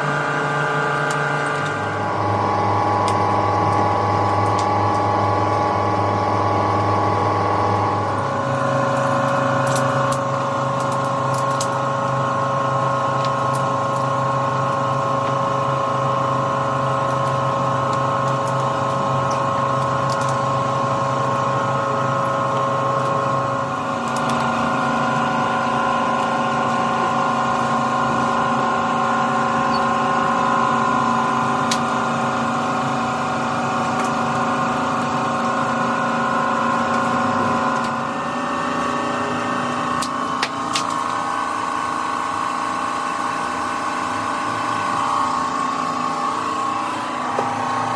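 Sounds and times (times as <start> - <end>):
mixing mill machine drone: 0.0 - 47.9.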